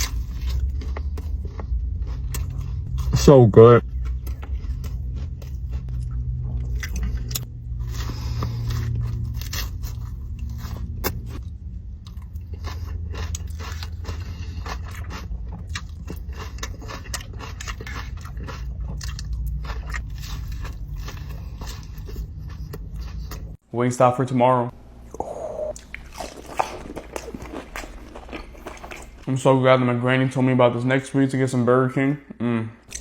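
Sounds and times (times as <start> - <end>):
person chewing crispy food: 0.0 - 23.6, 25.6 - 29.3
low steady hum: 0.0 - 33.0.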